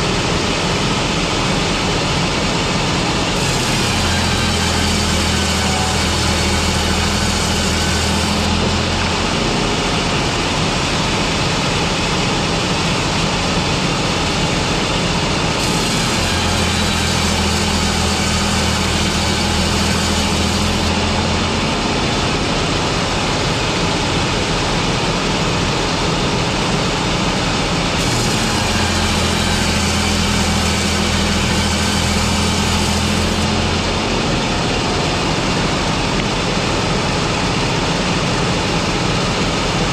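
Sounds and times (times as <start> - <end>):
industrial machinery noise: 0.0 - 39.9
machine low hum: 0.0 - 39.9.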